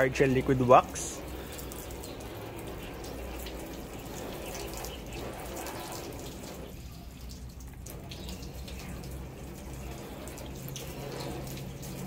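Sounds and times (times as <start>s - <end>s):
water jet splashing on car: 0.0s - 12.0s.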